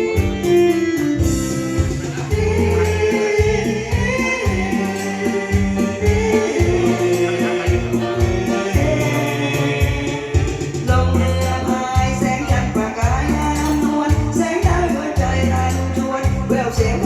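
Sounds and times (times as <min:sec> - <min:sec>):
band playing a song: 0:00.0 - 0:17.0
shaker rhythm: 0:00.2 - 0:17.0.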